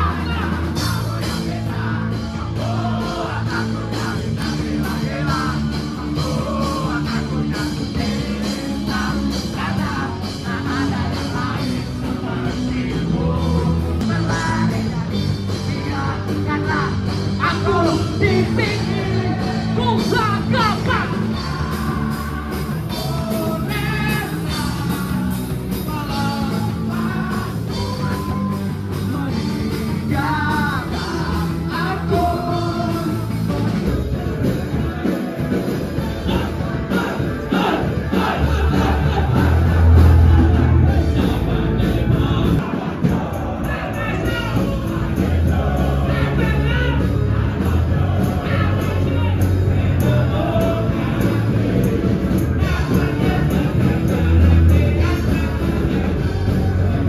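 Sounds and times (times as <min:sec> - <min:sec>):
rock song with singing: 0:00.0 - 0:57.0.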